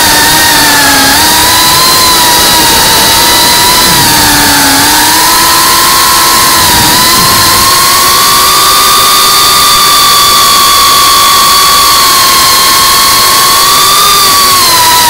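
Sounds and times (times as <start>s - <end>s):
drone motors whining: 0.0s - 15.0s
rushing noise: 0.0s - 15.0s.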